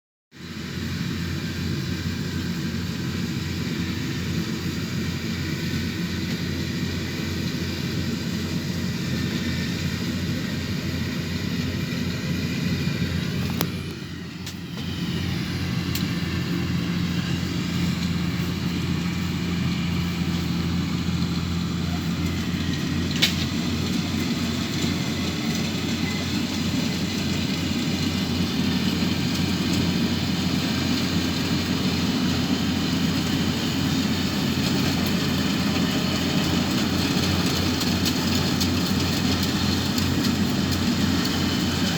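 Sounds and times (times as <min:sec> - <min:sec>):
combine harvester engine running: 0:00.4 - 0:41.9.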